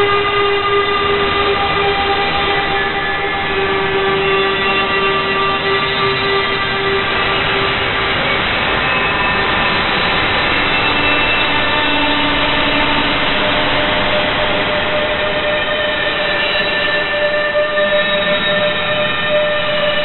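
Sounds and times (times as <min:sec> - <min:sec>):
loud noise drone with held tones: 0:00.0 - 0:20.0.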